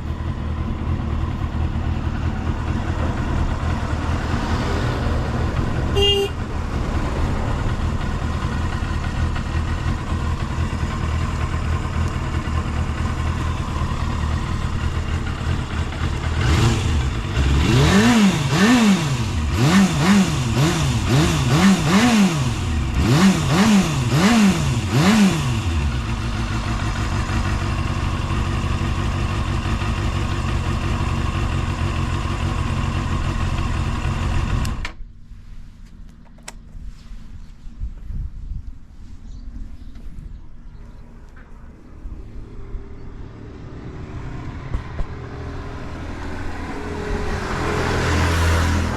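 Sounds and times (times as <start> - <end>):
motorcycle engine idling and revving: 0.0 - 35.2, 39.8 - 48.9.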